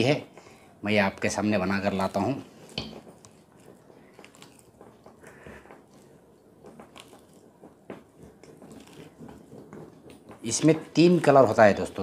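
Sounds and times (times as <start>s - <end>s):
dough squishing: 0.0s - 12.0s.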